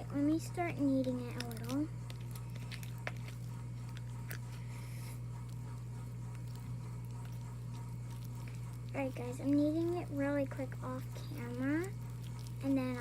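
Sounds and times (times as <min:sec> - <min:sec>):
low background hum: 0:00.0 - 0:13.0
slime squelching being kneaded: 0:00.0 - 0:13.0.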